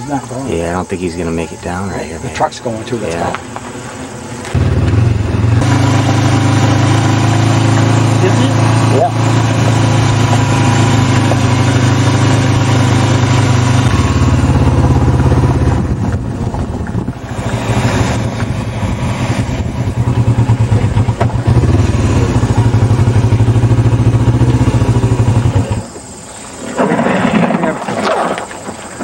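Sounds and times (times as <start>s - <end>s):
vehicle engine droning: 3.0s - 26.2s.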